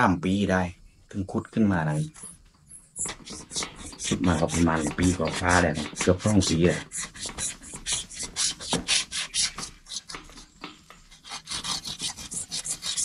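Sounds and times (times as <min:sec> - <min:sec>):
hand tool scraping wood: 0:02.0 - 0:13.0.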